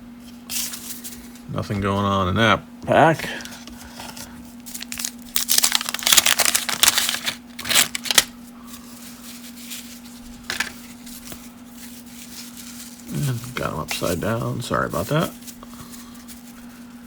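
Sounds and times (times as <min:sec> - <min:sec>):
wax-paper wrapper crinkling and tearing: 0:03.3 - 0:17.0.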